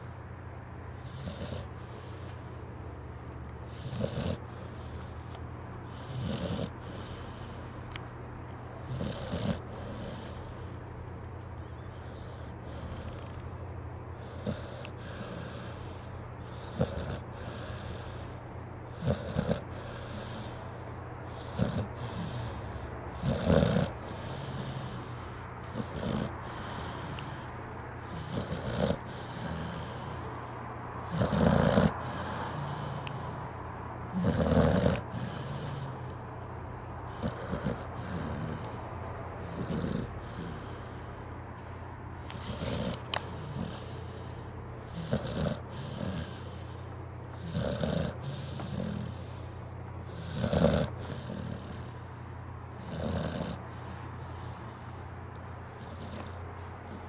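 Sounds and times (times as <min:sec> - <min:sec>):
dog snoring loudly: 0:00.9 - 0:02.3, 0:03.6 - 0:05.2, 0:05.9 - 0:07.6, 0:08.7 - 0:10.8, 0:11.7 - 0:41.3, 0:42.2 - 0:57.0.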